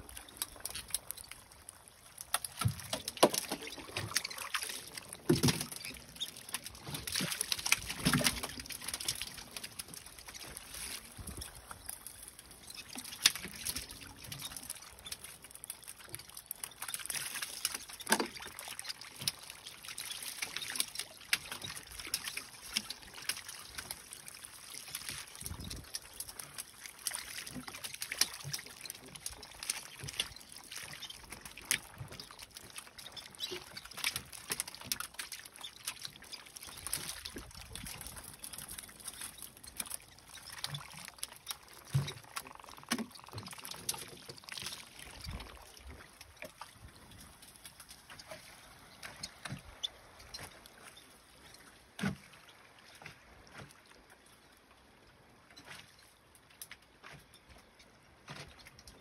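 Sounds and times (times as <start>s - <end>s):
fish thrashing and splashing: 0.0s - 53.8s
water trickling: 0.0s - 57.6s.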